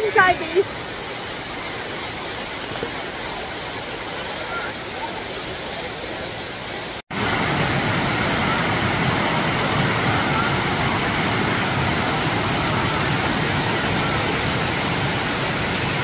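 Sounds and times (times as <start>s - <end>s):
water rushing down cascades: 0.0s - 16.0s.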